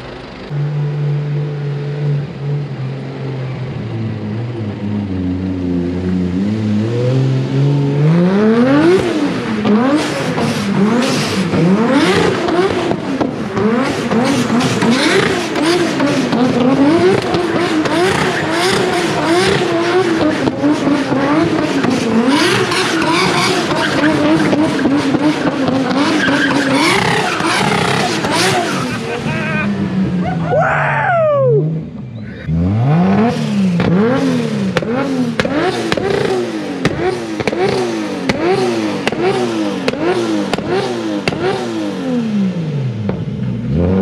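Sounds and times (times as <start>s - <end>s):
car engine revving hard: 0.0s - 30.5s, 32.4s - 44.0s.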